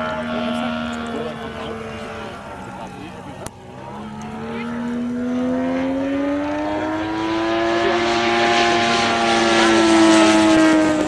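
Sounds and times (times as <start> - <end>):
model airplane engine and propeller: 0.0 - 11.0.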